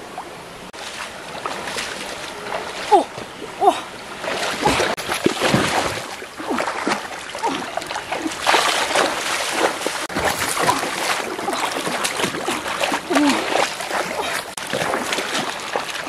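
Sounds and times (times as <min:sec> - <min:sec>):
stream water rushing: 0:00.0 - 0:16.0
water splashing and sloshing: 0:00.0 - 0:16.0.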